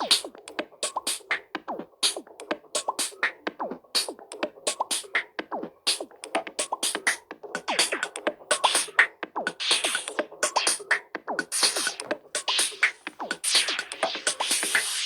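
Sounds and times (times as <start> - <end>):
drum machine beat: 0.0 - 15.0.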